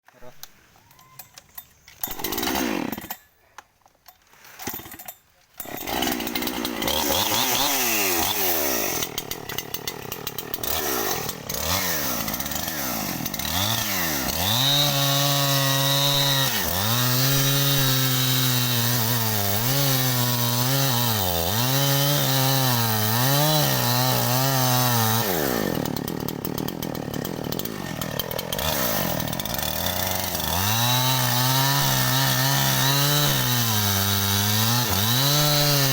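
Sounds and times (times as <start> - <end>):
chainsaw engine revving: 2.0 - 3.2, 5.6 - 35.9.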